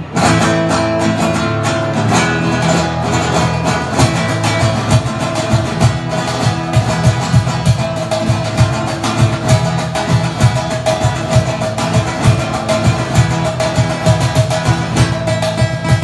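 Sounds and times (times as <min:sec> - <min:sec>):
acoustic guitar strumming: 0:00.0 - 0:16.0
percussion hits: 0:00.0 - 0:16.0.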